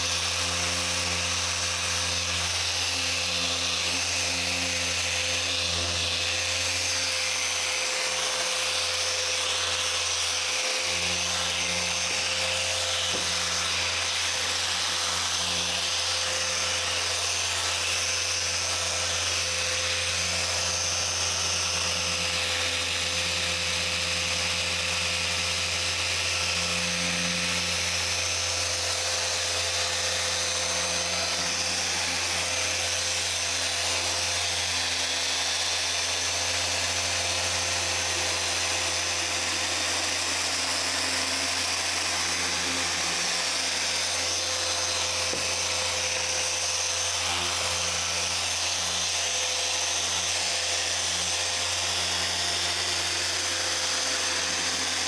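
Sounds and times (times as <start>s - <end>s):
car polisher whirring: 0.0s - 55.0s.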